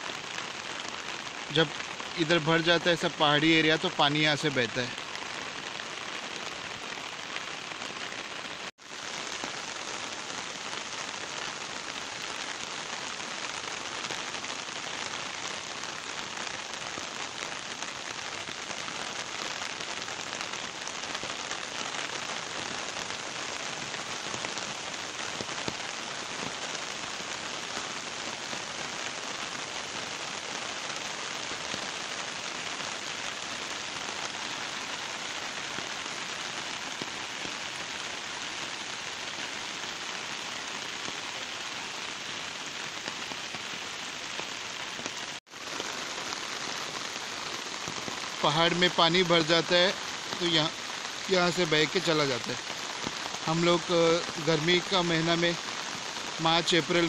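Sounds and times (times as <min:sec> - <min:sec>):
heavy rain on an umbrella: 0:00.0 - 0:57.0
rain on a river: 0:00.0 - 0:57.0.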